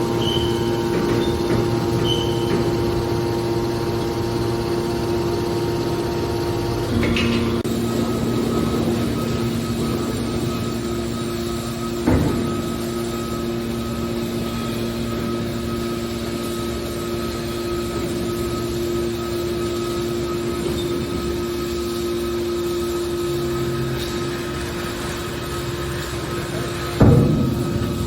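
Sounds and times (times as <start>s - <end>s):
baler motor and pump hum: 0.0s - 28.0s.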